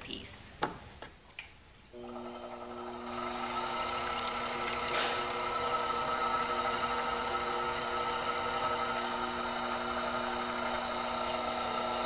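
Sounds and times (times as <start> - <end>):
potter's wheel humming: 2.0 - 12.0.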